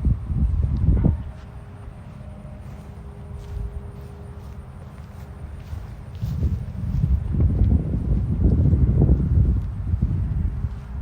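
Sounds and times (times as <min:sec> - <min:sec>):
van engine pulsing exhaust: 0:00.0 - 0:11.0.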